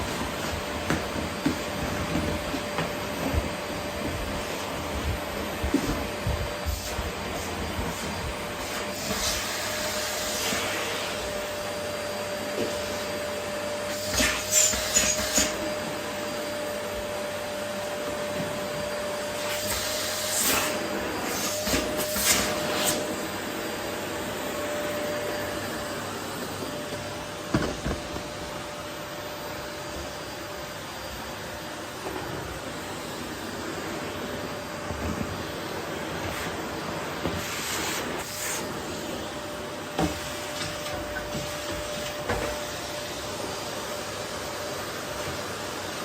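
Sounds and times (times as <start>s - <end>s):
vacuum cleaner motor whine: 0.0s - 46.0s.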